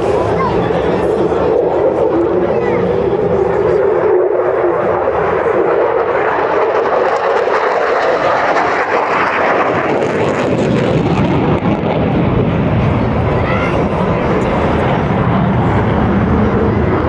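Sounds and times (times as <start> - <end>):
aircraft flying past: 0.0 - 17.0.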